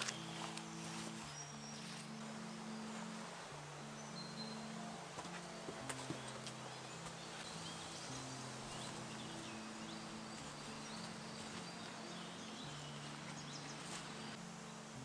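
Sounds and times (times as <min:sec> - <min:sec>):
slow low held music notes: 0:00.0 - 0:15.0
songbirds chirping: 0:00.0 - 0:15.0.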